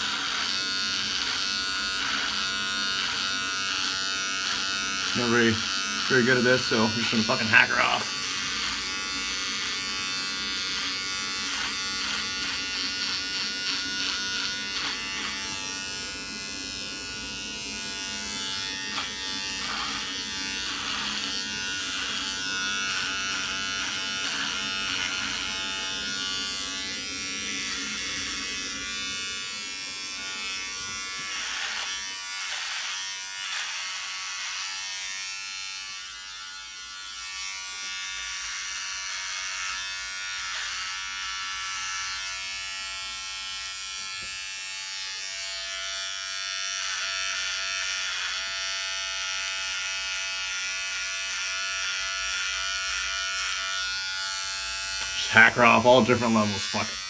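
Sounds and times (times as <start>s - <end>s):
electric razor buzzing: 0.0s - 57.0s.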